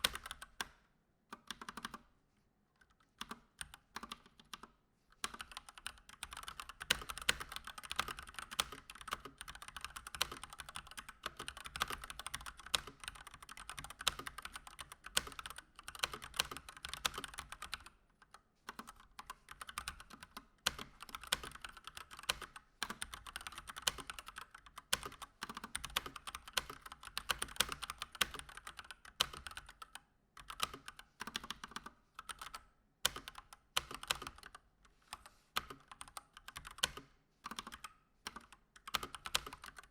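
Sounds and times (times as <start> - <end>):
fast typing on mechanical keyboard: 0.0 - 0.7, 1.4 - 2.1, 2.9 - 39.9.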